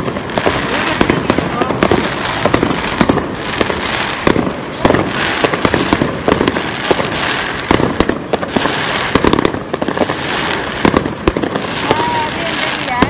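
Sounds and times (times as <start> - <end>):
crackling hiss: 0.0 - 13.0
fireworks bangs and cracks: 0.0 - 13.0.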